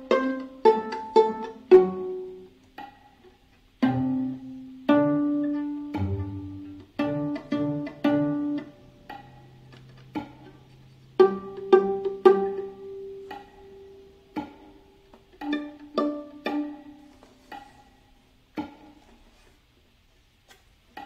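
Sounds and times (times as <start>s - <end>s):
viola plucked pizzicato: 0.0s - 21.0s.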